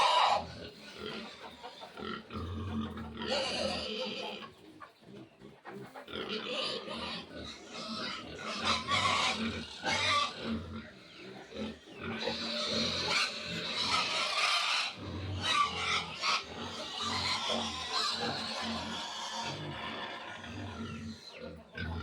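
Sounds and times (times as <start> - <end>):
piglets squealing: 0.0 - 1.9, 2.6 - 4.5, 6.3 - 22.0.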